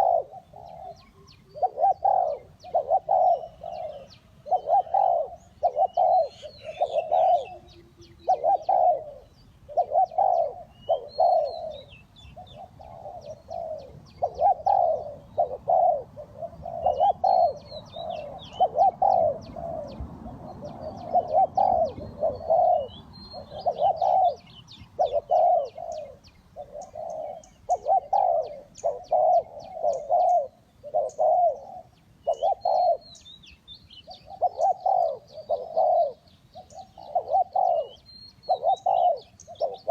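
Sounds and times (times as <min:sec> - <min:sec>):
doves cooing: 0:00.0 - 0:33.3, 0:34.0 - 0:39.9
small birds chirping: 0:00.0 - 0:39.9.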